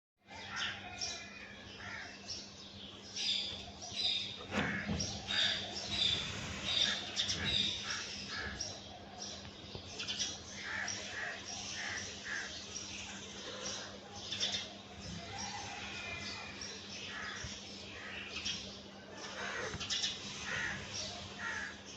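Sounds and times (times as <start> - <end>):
birds chirping: 0.2 - 21.9.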